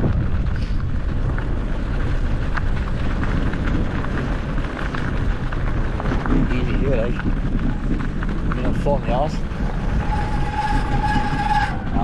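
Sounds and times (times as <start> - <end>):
bicycle clicks and rattles: 0.0 - 12.0
wind buffeting microphone: 0.0 - 12.0.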